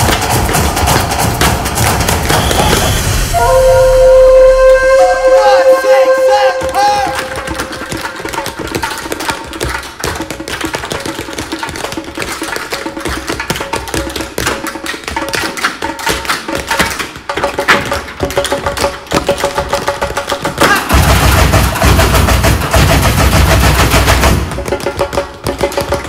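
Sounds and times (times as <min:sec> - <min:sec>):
tap dance shoes tapping: 0:00.0 - 0:03.0, 0:06.6 - 0:26.0
music: 0:00.0 - 0:26.0.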